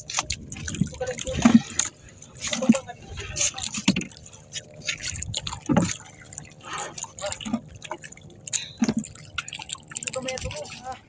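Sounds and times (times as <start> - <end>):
water splashing and dripping: 0.0 - 11.0.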